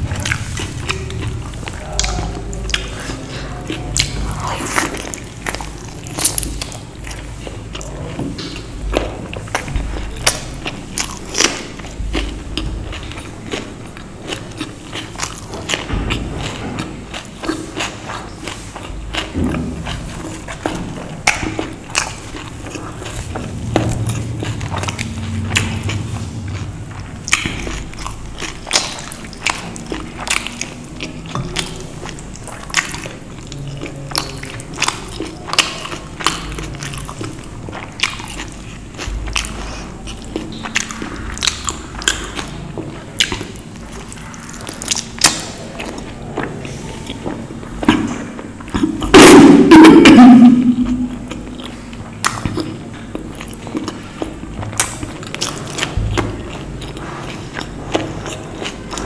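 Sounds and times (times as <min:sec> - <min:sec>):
person chewing wet food: 0:00.0 - 0:59.0.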